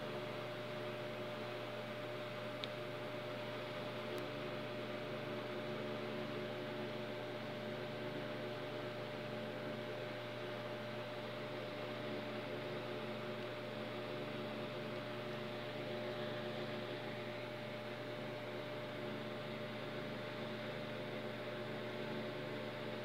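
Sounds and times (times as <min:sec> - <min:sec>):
appliance hum with tones: 0:00.0 - 0:23.0.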